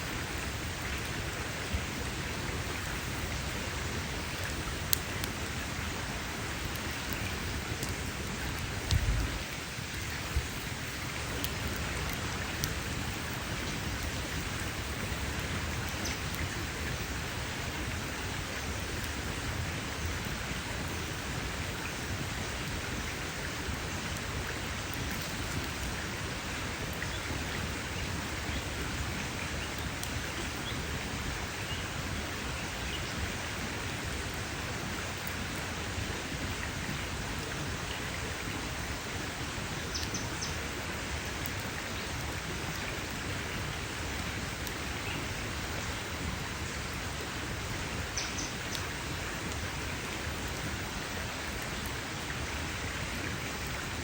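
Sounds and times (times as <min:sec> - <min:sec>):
campfire hissing: 0:00.0 - 0:54.0
fire crackling and popping: 0:00.0 - 0:54.0.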